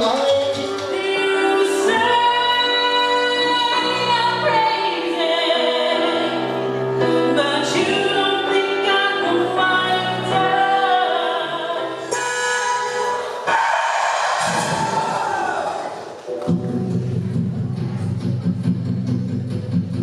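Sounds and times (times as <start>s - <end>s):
musical accompaniment: 0.0s - 20.0s.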